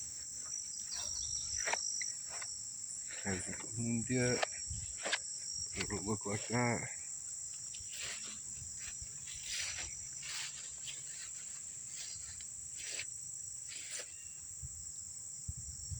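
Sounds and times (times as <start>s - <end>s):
insect chorus trilling: 0.0s - 15.9s.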